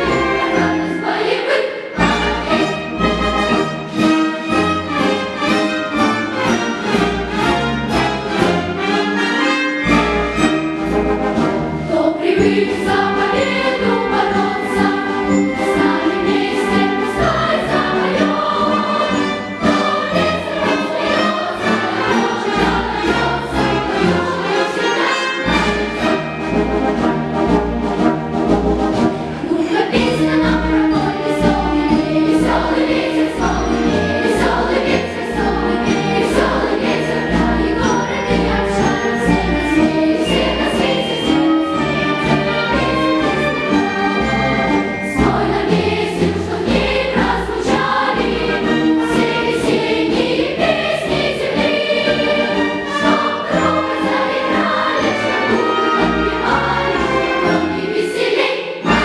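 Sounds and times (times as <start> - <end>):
children's choir singing: 0.0 - 28.1, 28.7 - 59.0.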